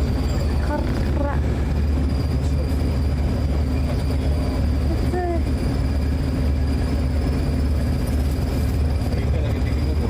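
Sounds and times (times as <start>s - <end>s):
vehicle rumble inside cabin: 0.0s - 10.0s.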